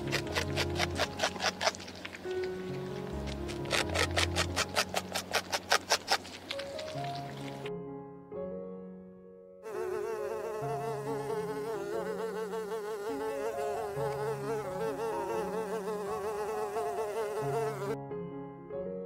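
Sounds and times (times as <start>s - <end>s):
bees buzzing: 0.0s - 7.7s, 9.7s - 18.0s
soft background music: 0.0s - 19.0s.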